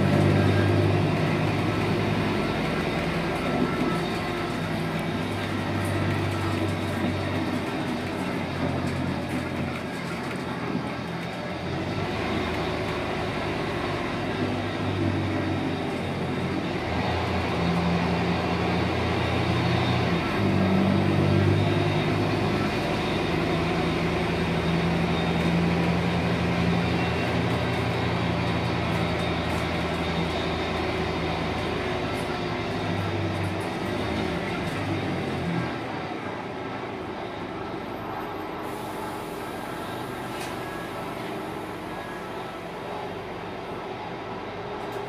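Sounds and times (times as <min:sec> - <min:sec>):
bus diesel engine: 0:00.0 - 0:45.0
road and body noise: 0:00.0 - 0:45.0.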